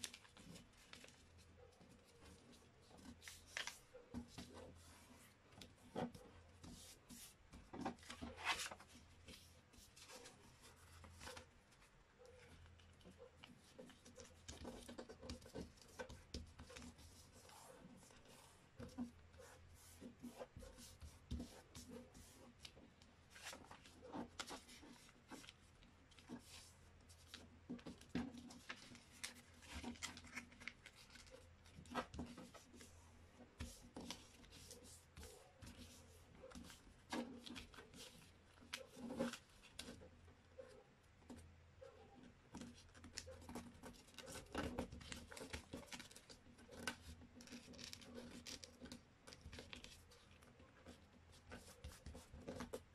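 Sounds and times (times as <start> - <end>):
paper being folded and creased: 0.0 - 33.0, 33.6 - 40.1, 42.5 - 52.8.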